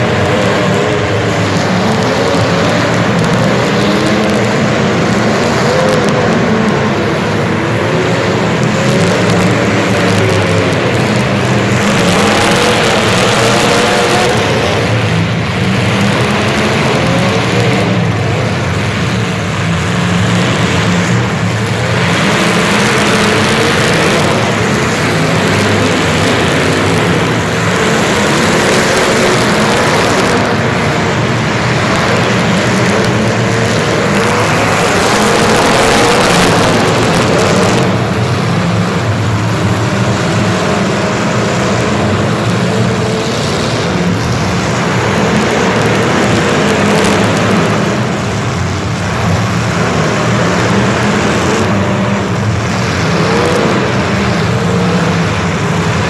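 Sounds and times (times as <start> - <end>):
motor vehicle engine: 0.0 - 56.0.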